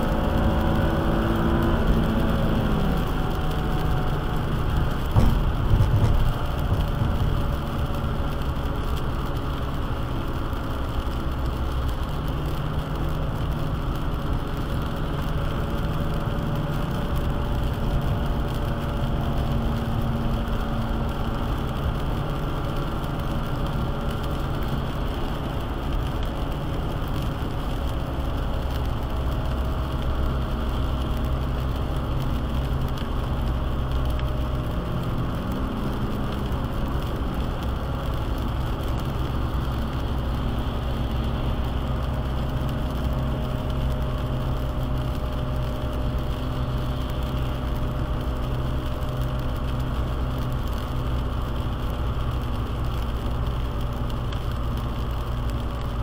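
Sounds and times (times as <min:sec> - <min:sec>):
car engine hum: 0:00.0 - 0:56.0
light hiss of rain: 0:00.0 - 0:56.0
tyres on wet pavement: 0:00.0 - 0:56.0.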